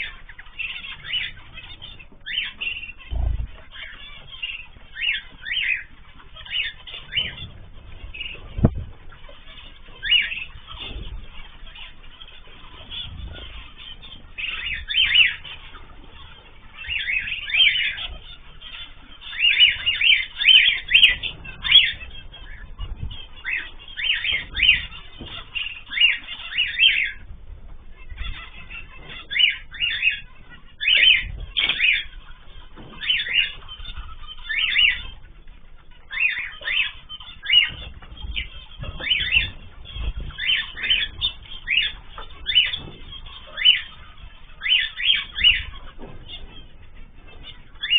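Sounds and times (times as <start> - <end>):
cage birds chirping and squawking: 0.0 - 47.9.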